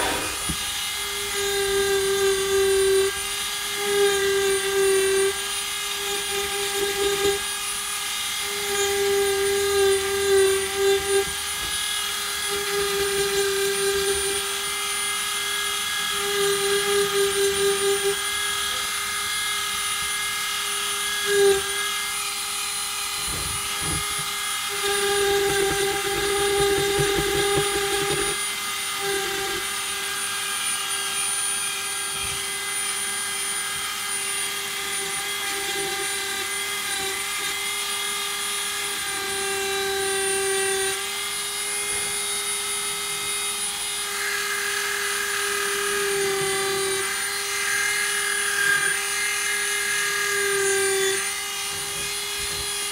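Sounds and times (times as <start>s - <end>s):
rotary tool grinding wood: 0.0s - 52.9s.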